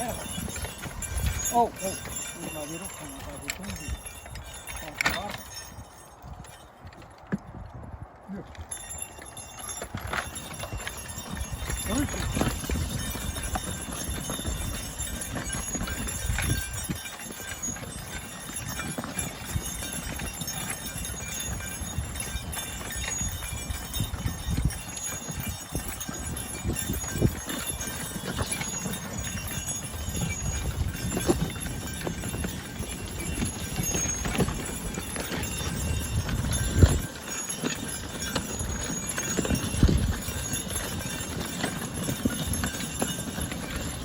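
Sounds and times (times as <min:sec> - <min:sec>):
horse hooves thudding: 0:00.0 - 0:44.0.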